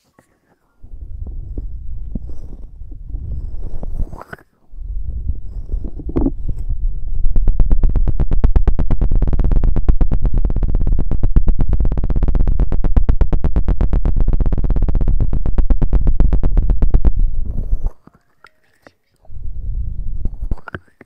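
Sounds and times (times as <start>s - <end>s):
fast scratching on microphone: 0.8s - 18.0s, 19.3s - 20.9s.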